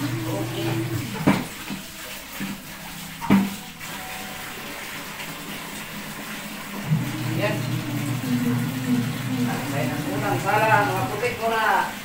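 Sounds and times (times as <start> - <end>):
tap water running into bucket: 0.0 - 12.0.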